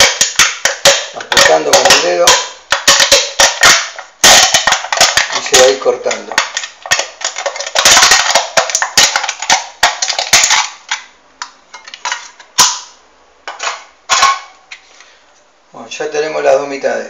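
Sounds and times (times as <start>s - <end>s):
aluminium can crackling: 0.0s - 14.6s.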